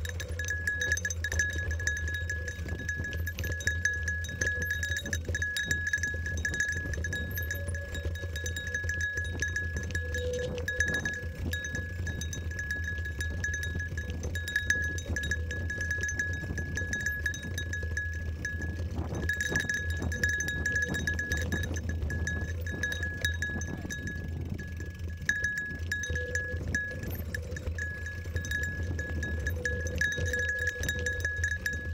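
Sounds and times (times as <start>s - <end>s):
bike rattling over dirt trail: 0.0s - 31.9s
low wind rumble: 0.0s - 31.9s
small bell jingling: 0.0s - 31.9s.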